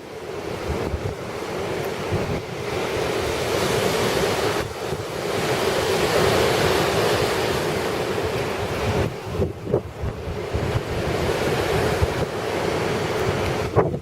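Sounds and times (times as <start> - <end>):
strong gusty wind buffeting microphone: 0.0 - 14.0.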